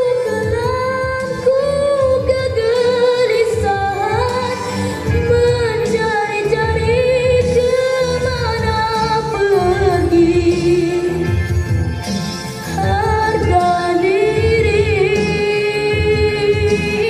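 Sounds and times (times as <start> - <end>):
boy singing into microphone: 0.0 - 11.3, 12.8 - 17.0
backing track with steady beat: 0.0 - 17.0.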